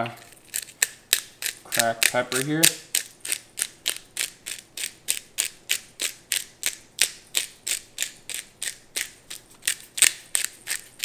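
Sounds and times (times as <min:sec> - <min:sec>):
pepper grinder crunching clicks: 0:00.3 - 0:11.0.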